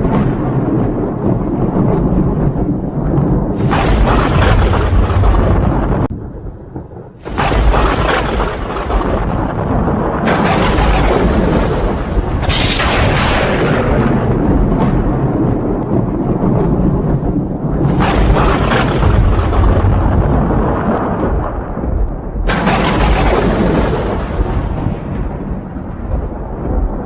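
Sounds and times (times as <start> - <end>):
deep thunder rumbling: 0.0 - 27.0
sharp thunder cracks: 0.0 - 27.0.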